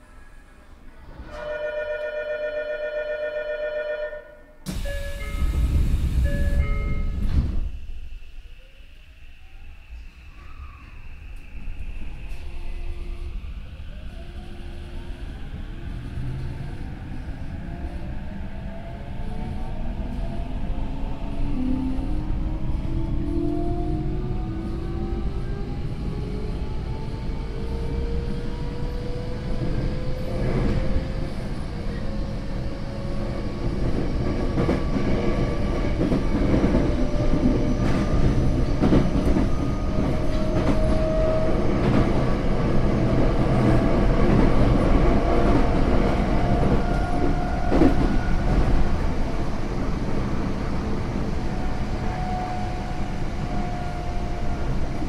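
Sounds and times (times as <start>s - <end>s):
train rumble: 4.6s - 55.0s.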